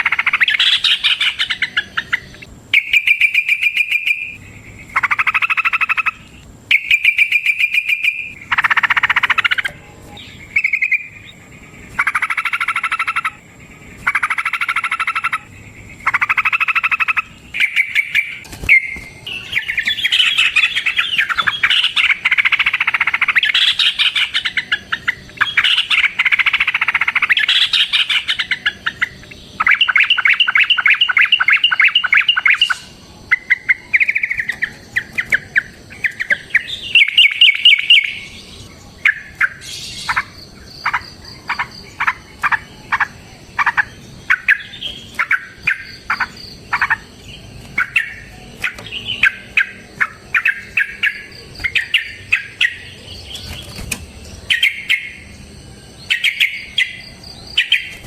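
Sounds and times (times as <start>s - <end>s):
bird song rattling and chattering: 0.0s - 13.4s, 14.0s - 38.4s, 39.0s - 55.3s.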